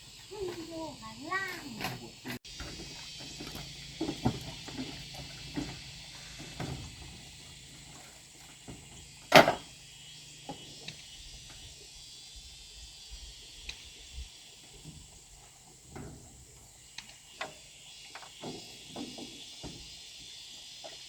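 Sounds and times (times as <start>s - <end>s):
high insect buzz: 0.0s - 21.0s.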